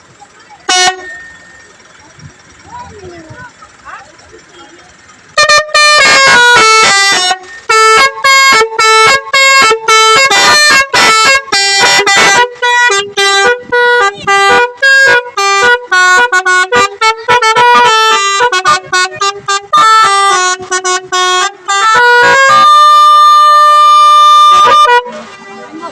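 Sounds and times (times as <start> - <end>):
musical horn melody: 0.7 - 1.6, 5.3 - 25.9.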